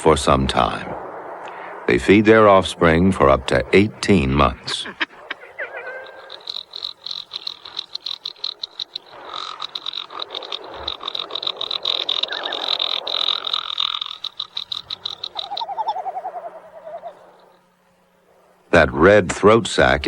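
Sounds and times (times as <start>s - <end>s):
falling warbled bird call: 0.0s - 18.7s
seabirds rattling trill: 0.0s - 20.0s.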